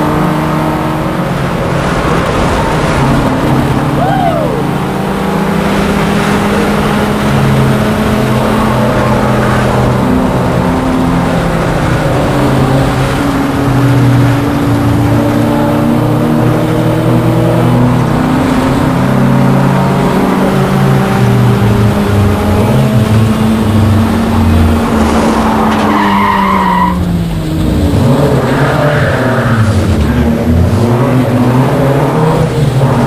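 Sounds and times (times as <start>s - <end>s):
race car engine revving: 0.0s - 33.0s.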